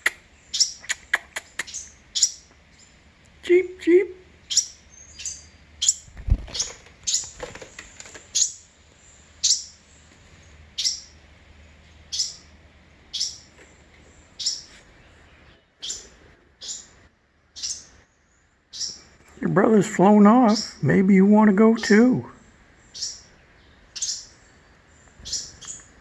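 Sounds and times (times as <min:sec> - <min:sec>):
fledgling bird cheeping: 0:00.0 - 0:07.4, 0:08.3 - 0:09.9, 0:10.7 - 0:11.2, 0:12.0 - 0:13.6, 0:14.2 - 0:21.0, 0:21.8 - 0:26.0.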